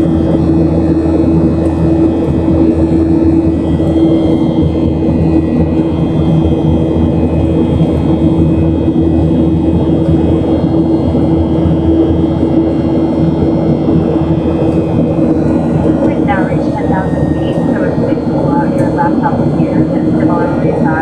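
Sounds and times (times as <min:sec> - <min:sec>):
jet engine rumble in cabin: 0:00.0 - 0:21.0.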